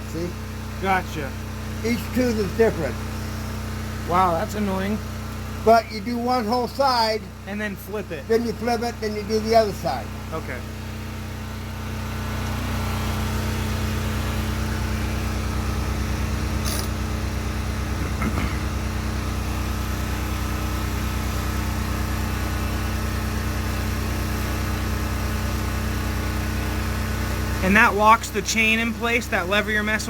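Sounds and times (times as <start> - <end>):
motor humming: 0.0 - 29.9.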